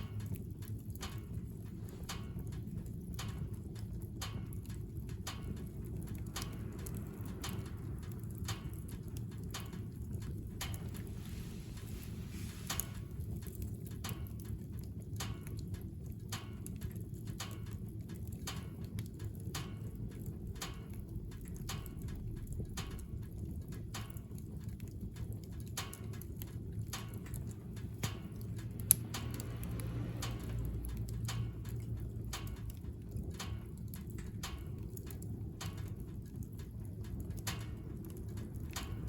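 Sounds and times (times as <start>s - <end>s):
low steady rumble: 0.0s - 39.0s
wood crackling in a stove: 0.0s - 39.0s.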